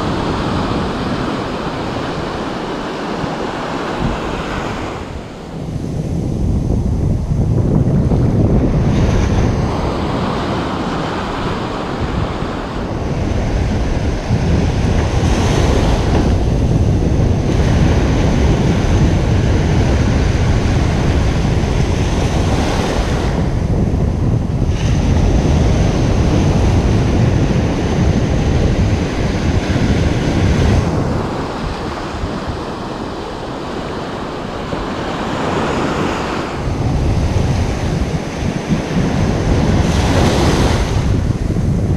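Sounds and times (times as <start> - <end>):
ocean surf breaking: 0.0 - 41.9
wind rumbling on microphone: 0.0 - 41.9.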